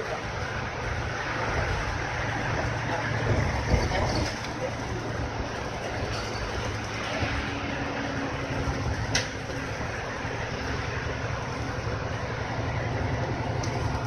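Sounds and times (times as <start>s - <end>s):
diesel bus engine idling: 0.0s - 14.0s.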